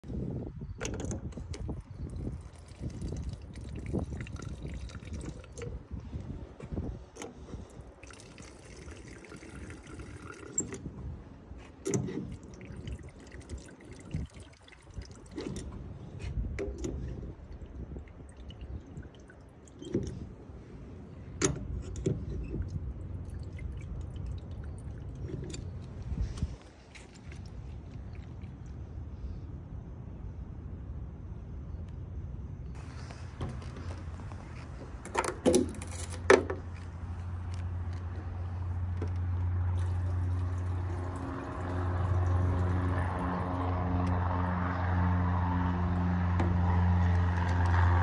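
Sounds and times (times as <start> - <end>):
fuel trickling and dripping: 0.4 - 29.4, 32.7 - 48.0.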